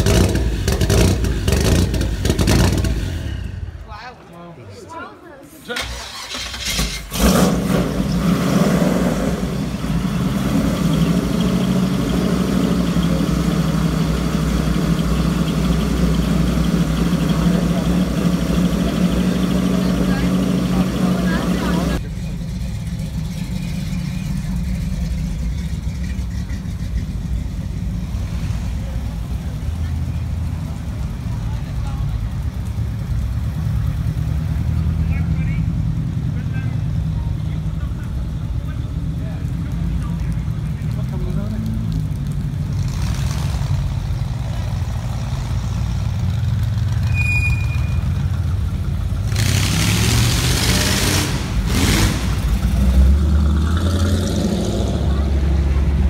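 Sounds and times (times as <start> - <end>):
car engines running at low revs: 0.0 - 3.6, 6.5 - 56.0.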